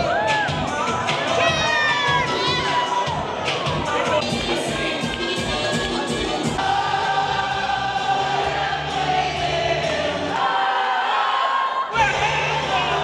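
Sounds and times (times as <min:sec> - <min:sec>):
music with sung vocals: 0:00.0 - 0:13.0.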